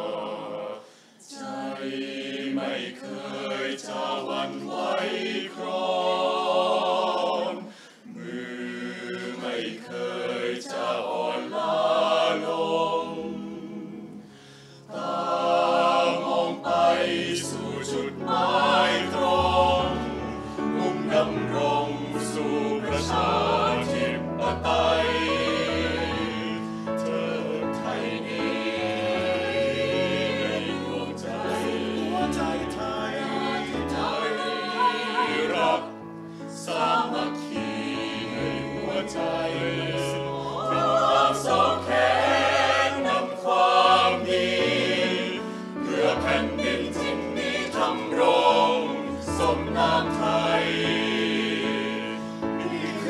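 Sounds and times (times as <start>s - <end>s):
mixed choir singing in harmony: 0.0s - 53.0s.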